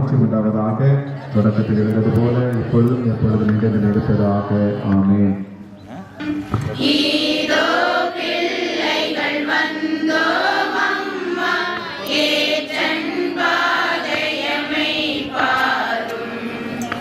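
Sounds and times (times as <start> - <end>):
congregation singing a hymn: 1.2 - 5.4, 6.6 - 17.0.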